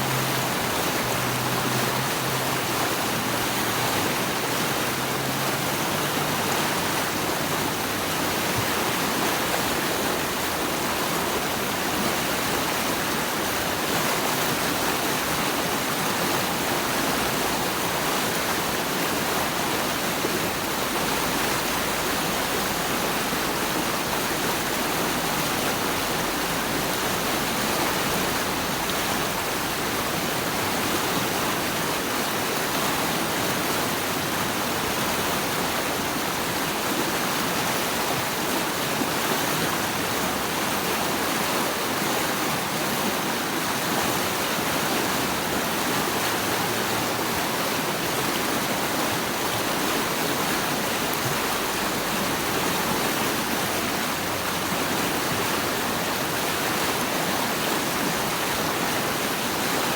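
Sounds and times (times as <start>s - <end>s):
rushing water hiss: 0.0s - 59.9s.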